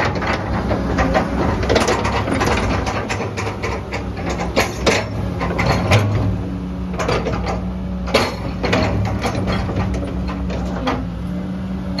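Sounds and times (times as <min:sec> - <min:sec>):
metallic clanks and clicks: 0:00.0 - 0:06.3, 0:07.0 - 0:11.1
excavator diesel engine running: 0:00.0 - 0:12.0.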